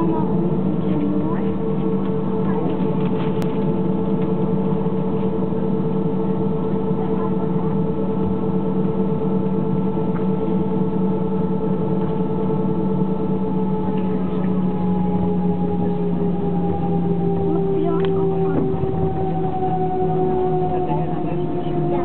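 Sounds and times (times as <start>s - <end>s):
jet engines humming in cabin: 0.0s - 22.0s.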